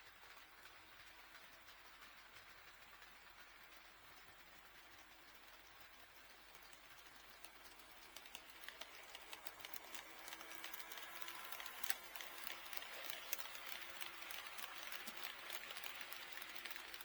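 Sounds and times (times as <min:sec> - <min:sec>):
model train wheels clicking: 0:00.0 - 0:17.0
model train running hiss: 0:00.2 - 0:17.0.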